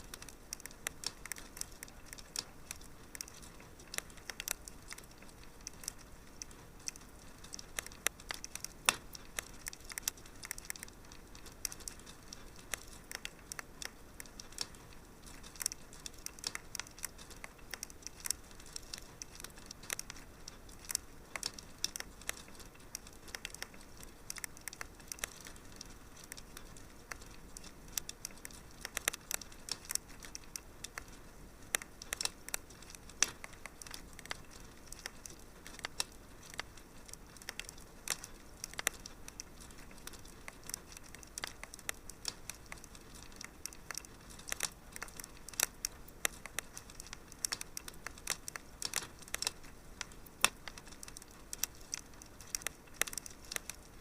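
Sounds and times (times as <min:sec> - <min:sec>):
faint hiss: 0:00.0 - 0:54.0
wood fire crackling: 0:00.0 - 0:54.0.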